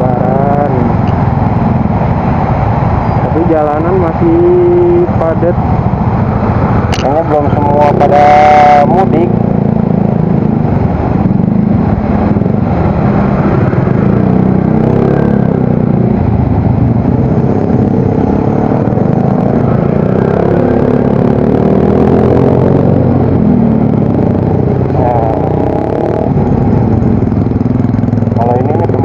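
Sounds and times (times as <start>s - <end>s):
traffic: 0.0s - 29.0s.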